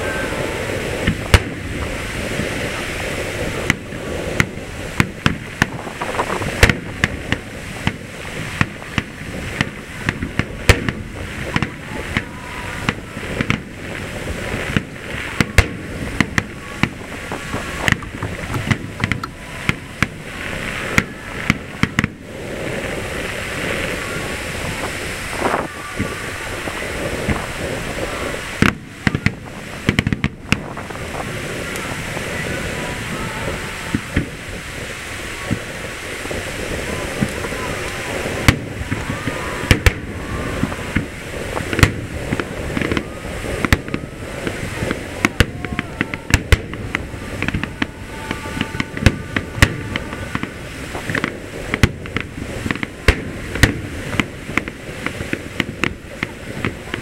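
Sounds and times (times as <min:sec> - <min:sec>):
firework shells bursting: 0:00.0 - 0:57.0
steady background hiss: 0:00.0 - 0:57.0.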